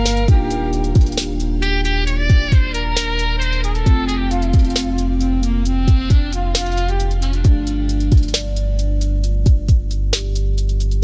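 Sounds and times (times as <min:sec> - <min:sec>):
deep kick drums dropping in pitch: 0:00.0 - 0:11.0
instrumental lounge music: 0:00.0 - 0:11.0.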